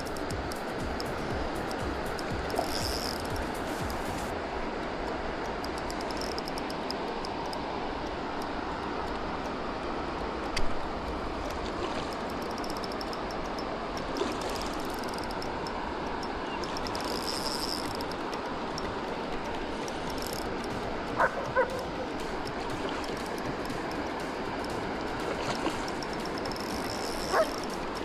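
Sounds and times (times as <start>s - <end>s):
stream flowing: 0.0s - 28.0s.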